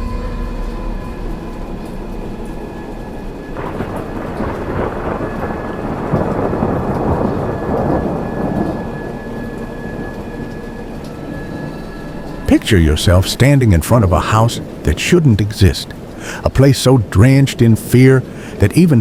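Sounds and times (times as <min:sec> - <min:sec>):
rain: 0:00.0 - 0:19.0
steady low drone: 0:00.0 - 0:19.0
thunder rumble: 0:00.0 - 0:19.0.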